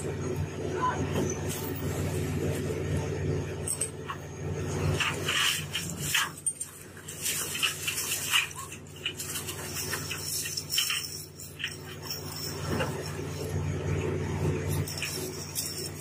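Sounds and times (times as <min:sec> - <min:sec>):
deck machinery drone: 0:00.0 - 0:16.0.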